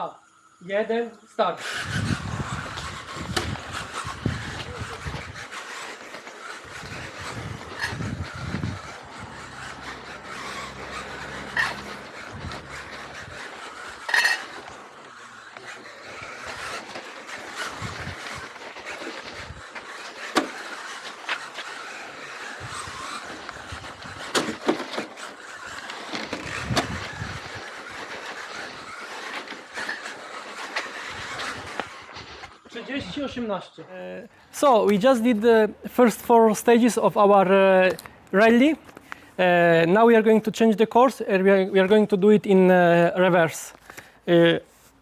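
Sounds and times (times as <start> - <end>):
rc car tyre and drive noise: 0.0 - 45.0.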